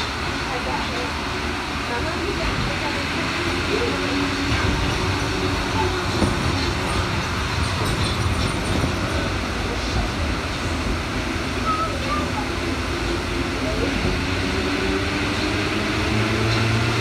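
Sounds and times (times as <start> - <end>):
metro train rumble and hiss: 0.0 - 17.0.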